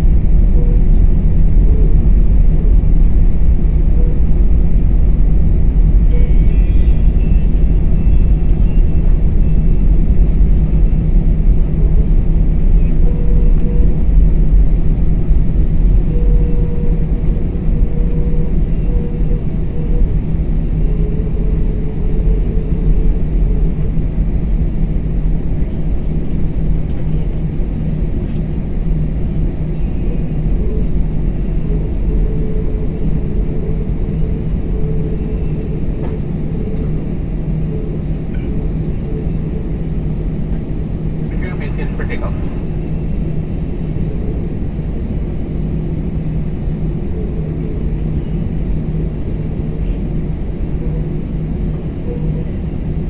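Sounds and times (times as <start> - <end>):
airliner engine rumble in cabin: 0.0 - 53.0.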